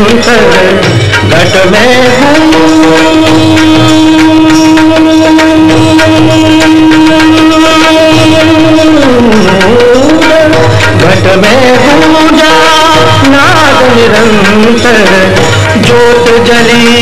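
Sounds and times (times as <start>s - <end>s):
person singing devotional song: 0.0s - 17.0s
steady drum beat: 0.0s - 17.0s.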